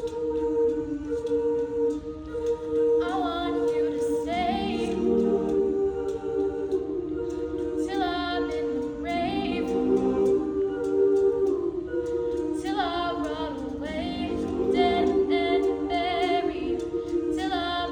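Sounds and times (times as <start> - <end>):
choir singing a cappella: 0.0 - 17.9.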